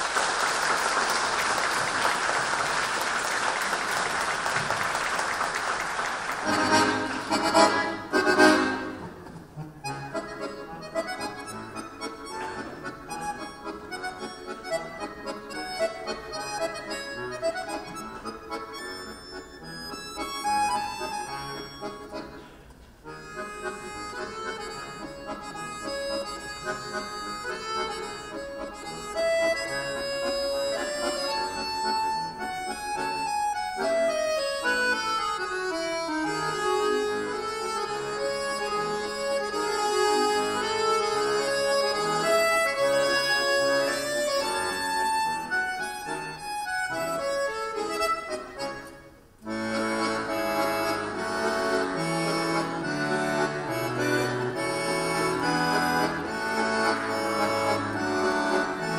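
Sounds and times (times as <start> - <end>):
button accordions playing a duet: 6.3 - 58.9.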